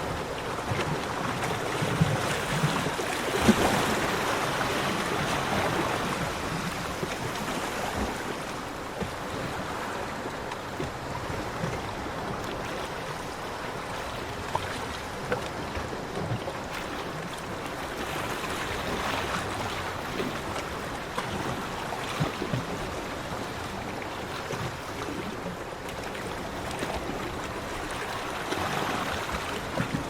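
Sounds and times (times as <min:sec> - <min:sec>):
ocean waves breaking on beach: 0:00.0 - 0:30.0.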